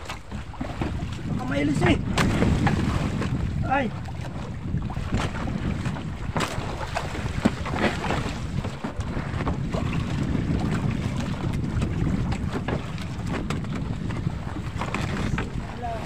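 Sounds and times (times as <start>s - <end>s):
boat engine rumble: 0.0s - 16.0s
water splashing against hull: 0.0s - 16.0s
wind buffeting microphone: 0.0s - 16.0s.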